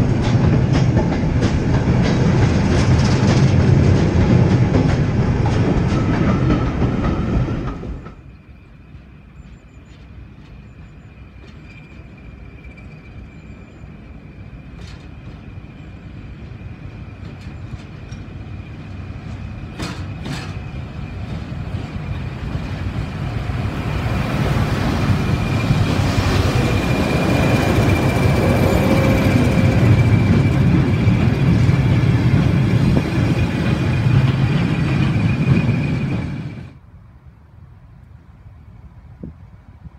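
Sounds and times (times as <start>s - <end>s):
train wheels clattering on rails: 0.0s - 36.8s
diesel locomotive engine whine: 0.0s - 39.9s.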